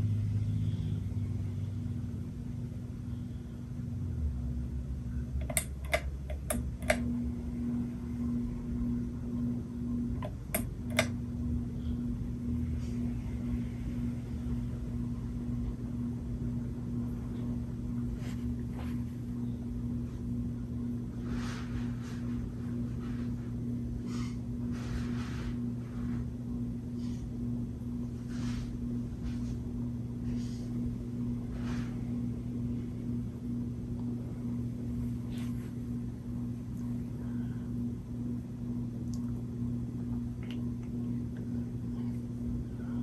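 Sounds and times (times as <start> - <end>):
ceiling fan motor hum: 0.0 - 43.0.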